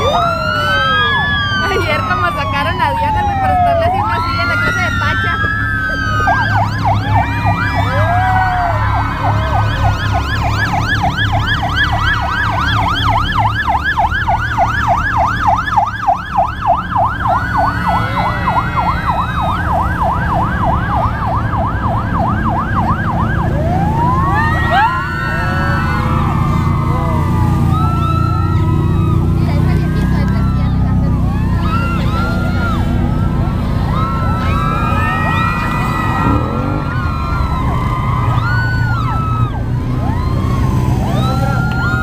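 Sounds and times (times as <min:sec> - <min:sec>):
vehicle engines passing: 0:00.0 - 0:42.0
vehicle siren yelping and wailing: 0:00.0 - 0:42.0.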